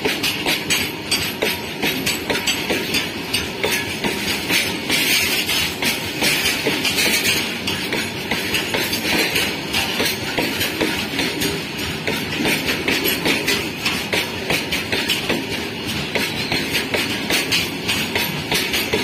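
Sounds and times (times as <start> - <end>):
train running noise: 0.0 - 19.0
wheels clattering over rail joints: 0.0 - 19.0.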